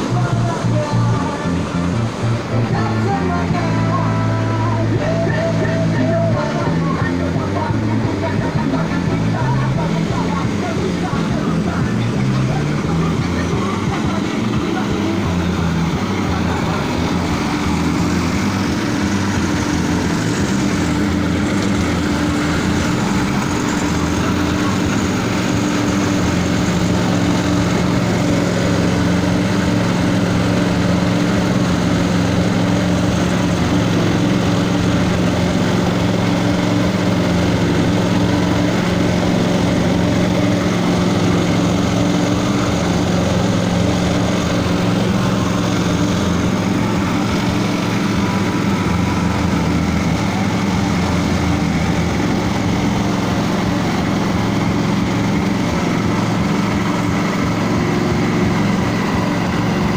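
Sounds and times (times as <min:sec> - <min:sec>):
engine humming steadily: 0:00.0 - 0:59.9.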